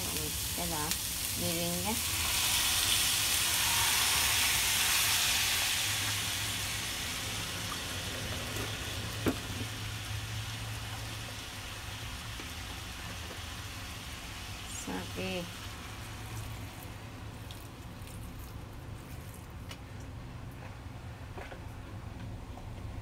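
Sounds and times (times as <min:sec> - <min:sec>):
food sizzling in a frying pan: 0:00.0 - 0:18.4.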